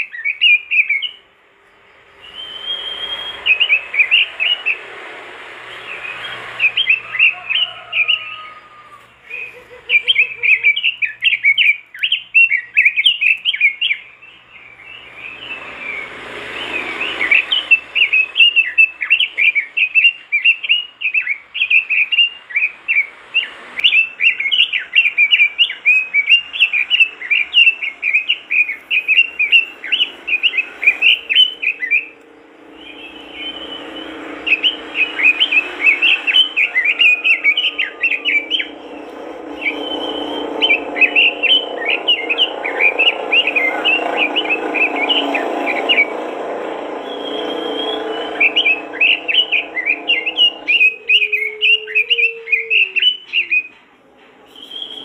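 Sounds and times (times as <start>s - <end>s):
bird singing chattering notes: 0.0s - 5.0s, 9.4s - 23.1s, 23.8s - 53.9s.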